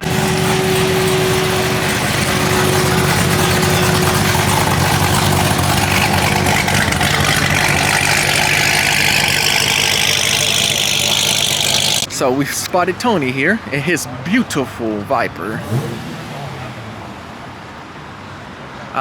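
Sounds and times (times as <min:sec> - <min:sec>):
car engine revving: 0:00.0 - 0:12.3, 0:13.5 - 0:17.9.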